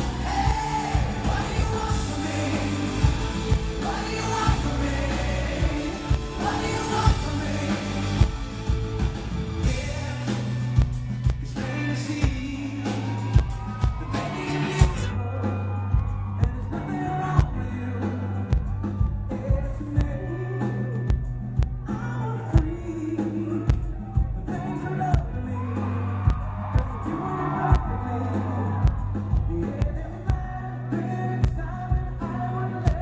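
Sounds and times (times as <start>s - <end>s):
bass guitar: 0.0s - 33.0s
drums: 0.0s - 33.0s
guitar: 0.0s - 33.0s
man singing: 0.0s - 33.0s.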